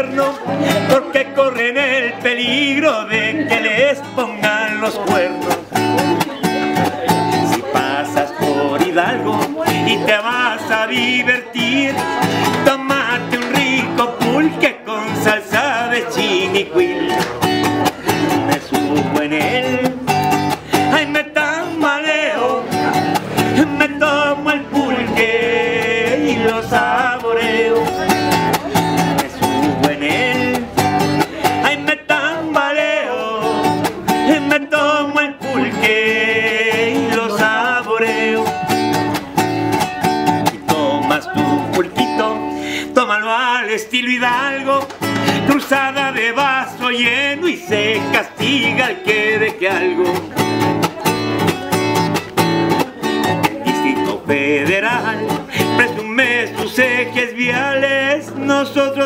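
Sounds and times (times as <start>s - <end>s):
strummed acoustic guitar music: 0.0s - 59.0s.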